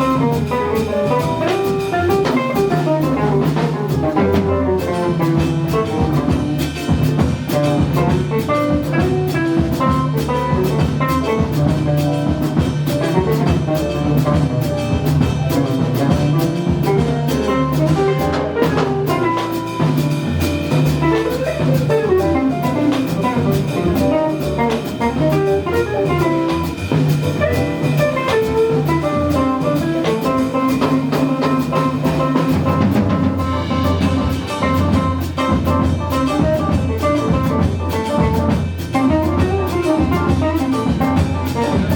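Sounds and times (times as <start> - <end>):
drum kit cymbals: 0.0 - 41.9
small jazz band playing: 0.0 - 41.9.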